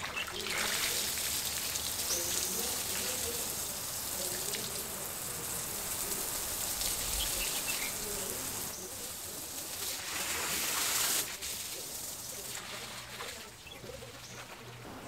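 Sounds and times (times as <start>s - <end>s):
water pattering onto wet soil: 0.0s - 15.0s
water spraying from a hose: 0.0s - 15.0s.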